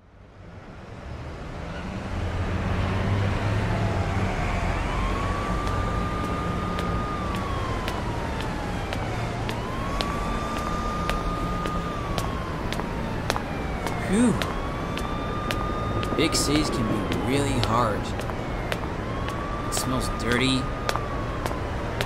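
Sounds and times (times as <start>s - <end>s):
traffic rumble: 0.1s - 22.0s
siren wailing: 2.6s - 22.0s.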